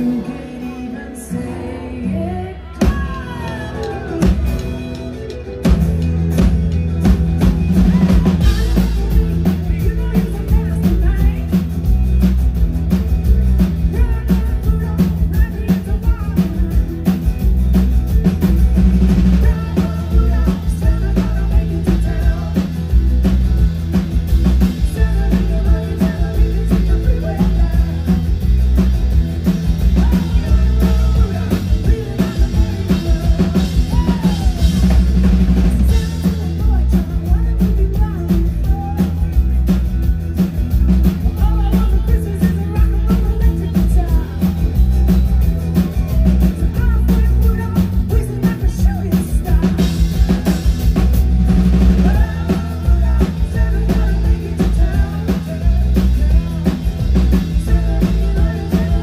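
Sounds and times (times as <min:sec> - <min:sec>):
person singing: 0:00.0 - 0:05.7, 0:07.6 - 0:11.8, 0:13.3 - 0:17.0, 0:18.9 - 0:23.2, 0:24.4 - 0:39.8, 0:41.0 - 0:59.0
heavy bass: 0:00.0 - 0:59.0
pop-rock band playing: 0:00.0 - 0:59.0
drum kit: 0:02.7 - 0:59.0.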